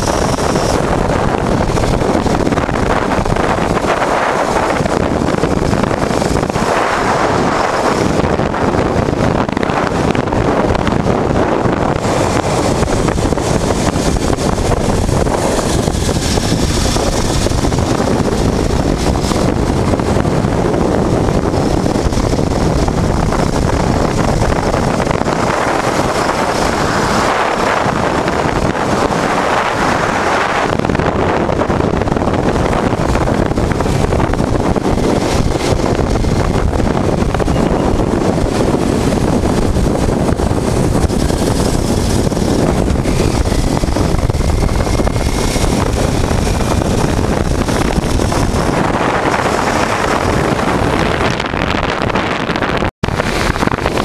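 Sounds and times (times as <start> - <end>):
motorcycle engine: 0.0 - 54.0
road noise: 0.0 - 54.0
wind buffeting microphone: 0.0 - 54.0.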